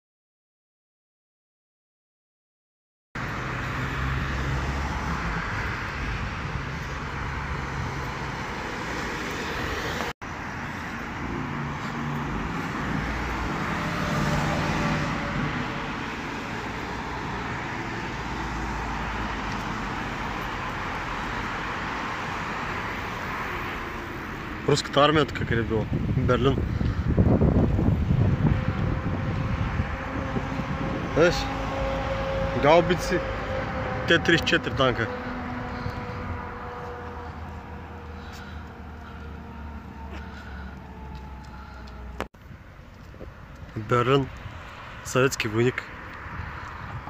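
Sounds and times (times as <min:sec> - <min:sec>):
road traffic rumble: 0:03.2 - 0:47.0.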